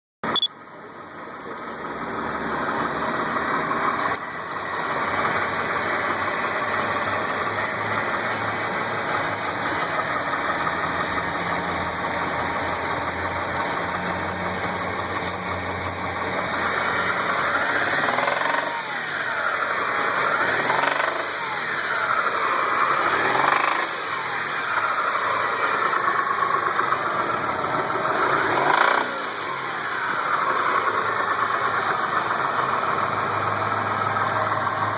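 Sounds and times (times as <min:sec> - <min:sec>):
engine knocking and revving: 0:00.4 - 0:34.9.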